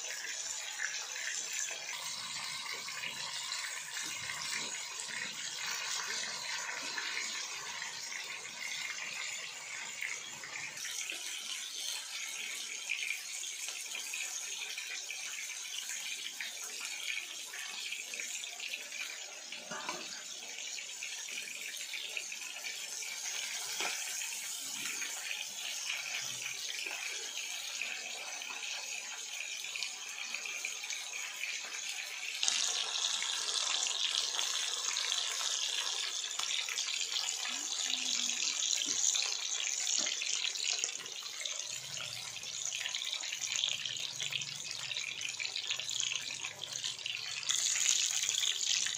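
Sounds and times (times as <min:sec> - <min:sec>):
oil sizzling in a pan: 0:00.0 - 0:48.9.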